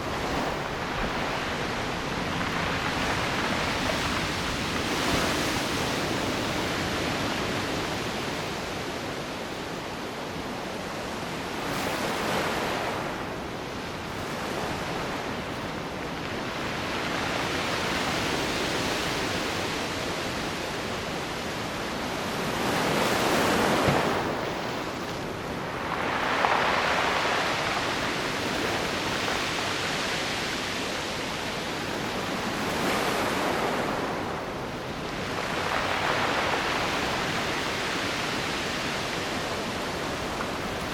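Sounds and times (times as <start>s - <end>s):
waves breaking on rocky shore: 0.0s - 40.9s.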